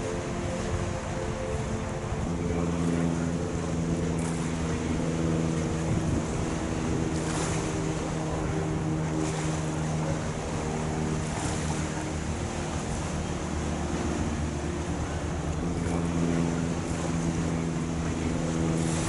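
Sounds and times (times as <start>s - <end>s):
ship diesel engine droning: 0.0s - 19.0s
water noise: 0.0s - 19.0s
wind: 0.0s - 19.0s.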